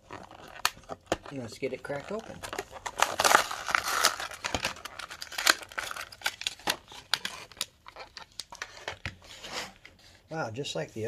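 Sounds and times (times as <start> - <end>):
plastic blister pack crinkling: 0.0 - 9.4.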